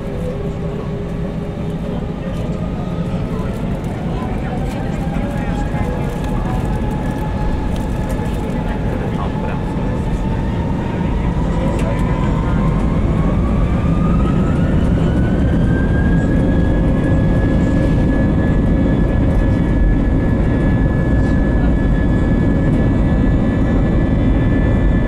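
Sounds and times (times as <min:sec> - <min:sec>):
jet engine whine: 0:00.0 - 0:25.0
loud engine rumble: 0:00.0 - 0:25.0.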